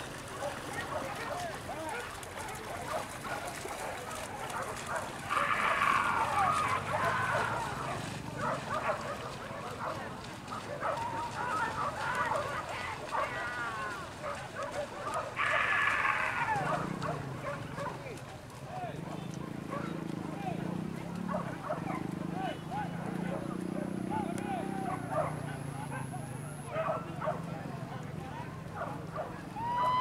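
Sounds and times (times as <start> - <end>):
people's voices: 0.0 - 30.0
dogs barking and yelping: 0.3 - 13.5, 14.2 - 18.2, 21.0 - 27.5, 28.8 - 29.5.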